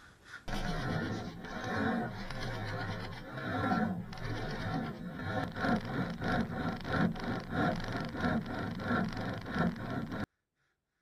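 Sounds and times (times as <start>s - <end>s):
hand saw cutting wood: 0.5s - 10.3s.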